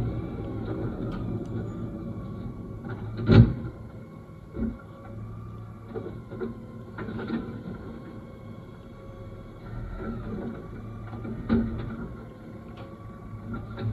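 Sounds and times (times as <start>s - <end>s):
garbage truck engine hum: 0.0s - 13.9s.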